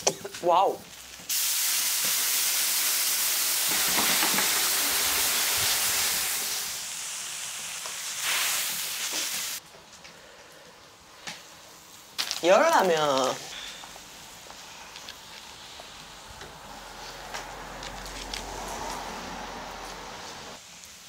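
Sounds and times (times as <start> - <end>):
water hissing on hot griddle: 0.0 - 21.0.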